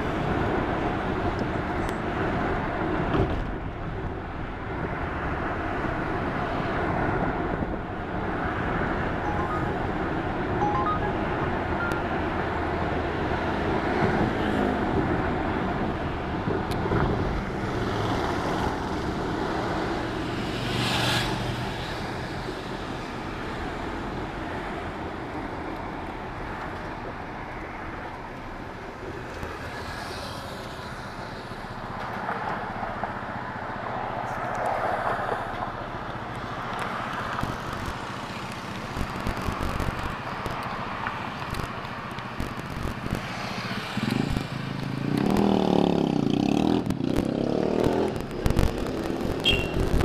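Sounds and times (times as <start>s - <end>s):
road traffic rumble: 0.0s - 50.0s.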